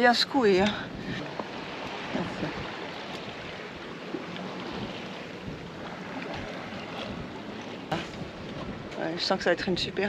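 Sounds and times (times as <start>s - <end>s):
sea waves: 0.0s - 10.0s
wind: 0.0s - 10.0s.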